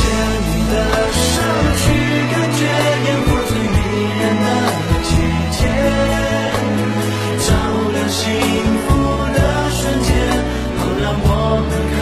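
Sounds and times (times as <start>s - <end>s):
live pop band music: 0.0s - 12.0s
man singing into microphone: 0.0s - 12.0s.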